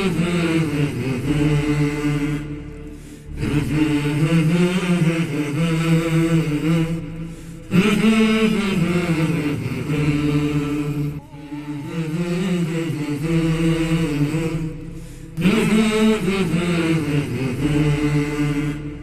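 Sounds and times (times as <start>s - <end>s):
vocal chanting: 0.0s - 19.0s.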